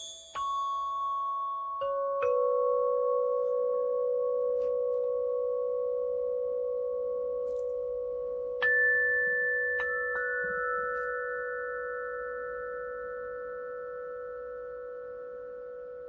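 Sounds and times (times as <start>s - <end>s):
ringing bell-like meditation tones: 0.0s - 16.0s.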